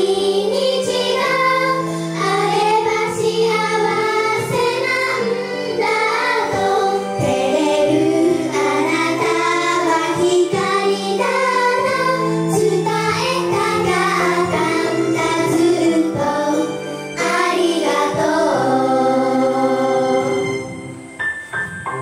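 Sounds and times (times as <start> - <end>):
girls singing in unison: 0.0 - 20.6
pop backing music with bass: 0.0 - 22.0.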